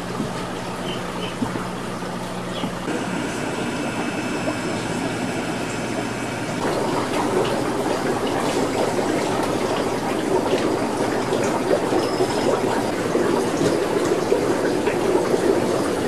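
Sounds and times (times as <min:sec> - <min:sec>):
aquarium water splashing: 0:00.0 - 0:16.0.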